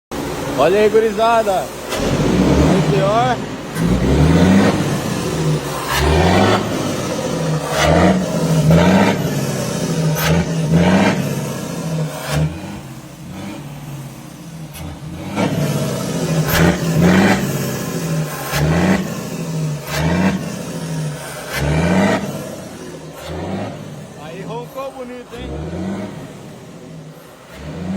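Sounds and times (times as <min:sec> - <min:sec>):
diesel truck engine revving: 0:00.1 - 0:27.9.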